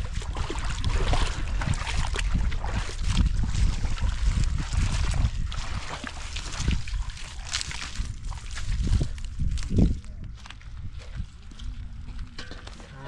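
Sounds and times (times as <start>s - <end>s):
constant low rumble: 0.0s - 13.0s
water splashing and trickling: 0.0s - 13.0s.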